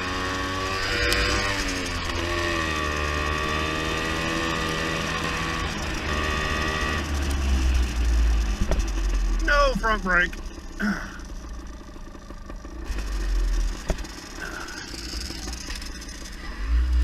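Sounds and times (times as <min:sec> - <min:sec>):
motorbike engine low revs: 0:00.0 - 0:17.0.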